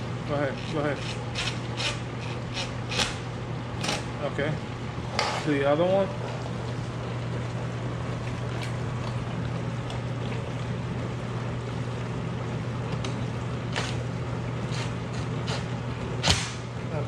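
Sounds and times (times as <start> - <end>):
dishwasher motor hum: 0.0 - 17.0.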